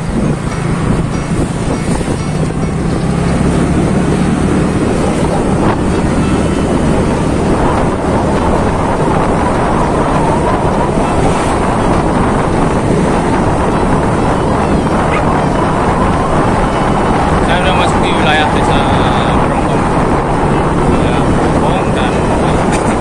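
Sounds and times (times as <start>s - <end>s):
motorbike engine running: 0.0s - 23.0s
wind rushing over microphone: 0.0s - 23.0s.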